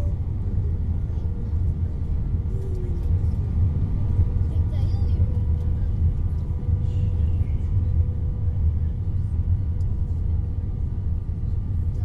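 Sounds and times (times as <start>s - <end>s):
engine and airflow rumble: 0.0s - 12.0s
faint engine whine: 0.0s - 12.0s.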